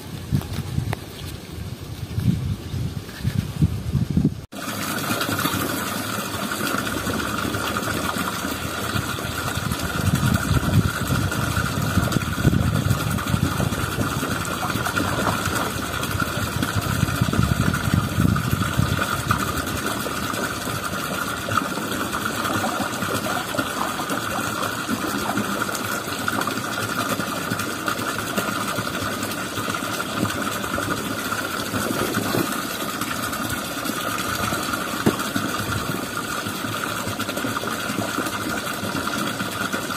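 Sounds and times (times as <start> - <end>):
small engine running: 4.6 - 39.9.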